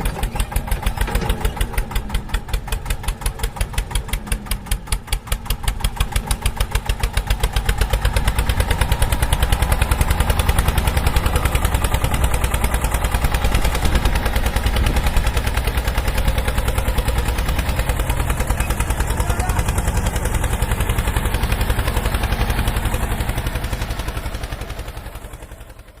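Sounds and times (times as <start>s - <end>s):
small tractor engine putting: 0.0s - 26.0s.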